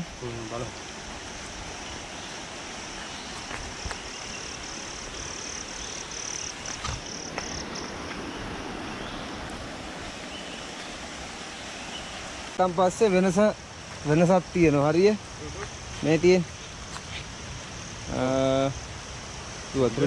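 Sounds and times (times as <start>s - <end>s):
insect drone: 0.0s - 20.0s
steady rushing hiss: 0.0s - 20.0s.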